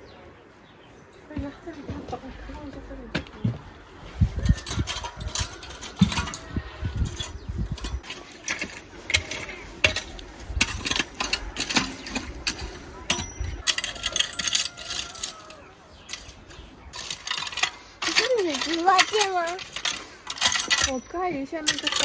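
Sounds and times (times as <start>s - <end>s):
soil and stones scraping: 0.7s - 22.0s.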